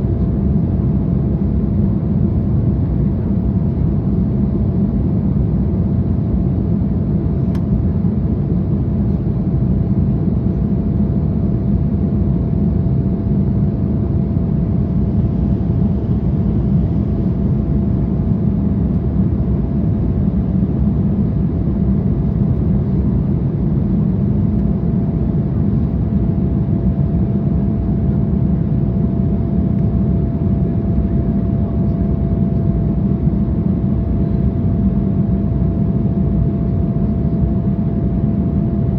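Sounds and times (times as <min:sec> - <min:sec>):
airliner cabin engine rumble: 0:00.0 - 0:38.9
faint steady whine: 0:00.0 - 0:38.9.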